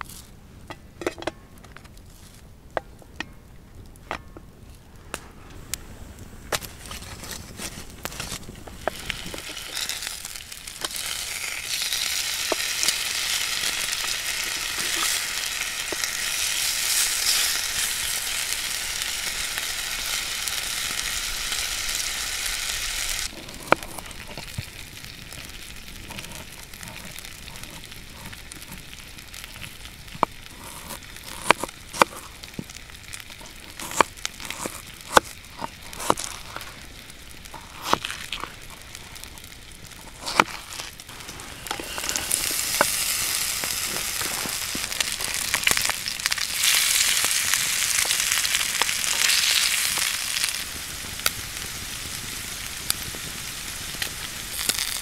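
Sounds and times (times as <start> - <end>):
bacon sizzling in skillet: 7.0 - 55.0.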